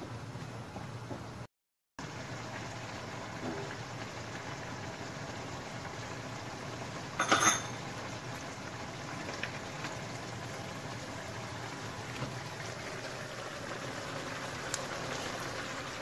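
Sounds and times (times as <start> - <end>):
sauce simmering with bubbling hiss: 2.0 - 7.2, 7.8 - 16.0.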